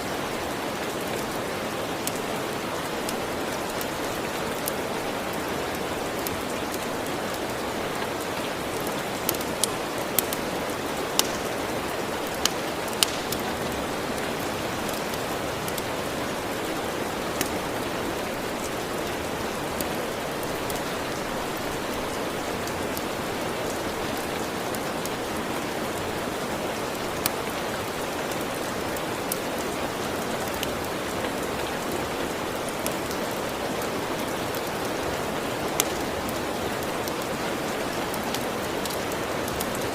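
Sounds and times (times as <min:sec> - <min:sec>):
steady rain: 0:00.0 - 0:39.9
wood fire crackling: 0:00.1 - 0:39.9.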